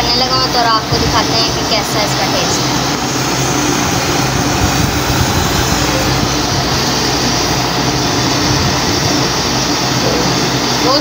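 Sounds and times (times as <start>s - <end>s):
mechanical whirring hum: 0.0s - 11.0s.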